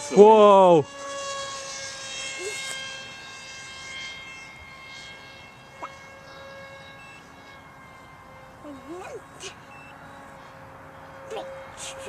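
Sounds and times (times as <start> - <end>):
model plane motor whining: 0.0 - 12.0.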